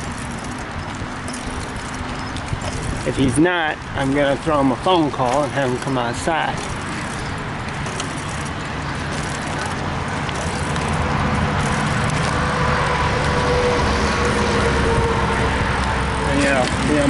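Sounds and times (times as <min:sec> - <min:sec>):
wind rush on microphone: 0:00.0 - 0:05.2, 0:06.4 - 0:17.0
bicycle tyre noise: 0:00.0 - 0:17.0.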